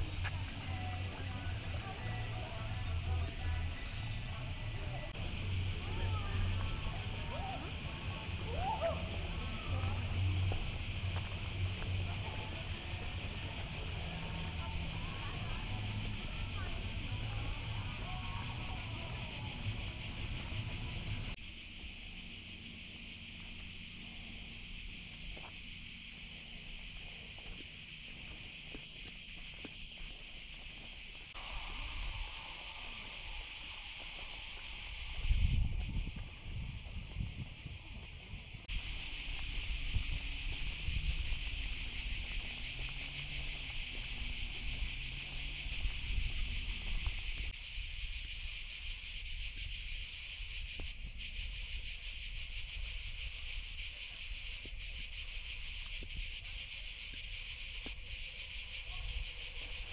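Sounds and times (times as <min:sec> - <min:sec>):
cicadas shrill hiss: 0:00.0 - 0:59.9.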